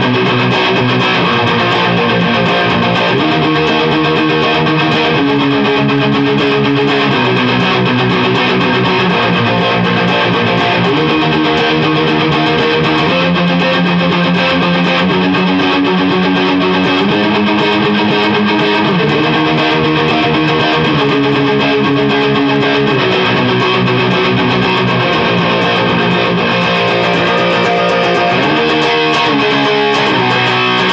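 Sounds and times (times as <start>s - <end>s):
electric guitar chords: 0.0s - 30.9s.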